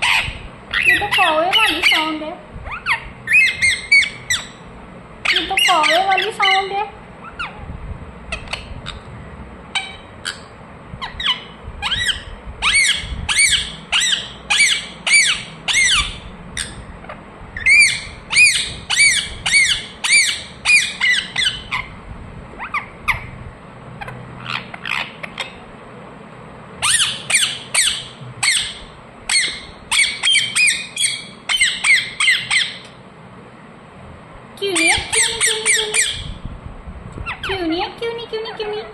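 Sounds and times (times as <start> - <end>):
parakeet squawking: 0.0 - 7.6, 8.3 - 9.1, 9.7 - 22.0, 22.6 - 23.4, 24.0 - 25.6, 26.8 - 33.0, 34.7 - 36.4, 37.2 - 37.7.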